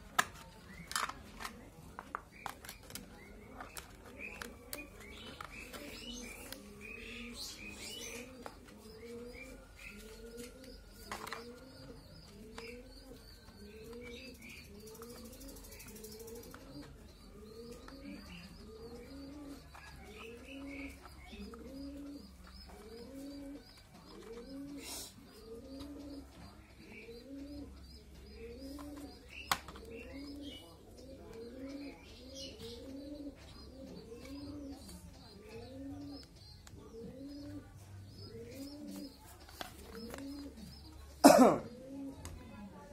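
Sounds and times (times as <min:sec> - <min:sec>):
small birds chirping: 0:00.0 - 0:42.9
bird cooing: 0:01.2 - 0:42.6.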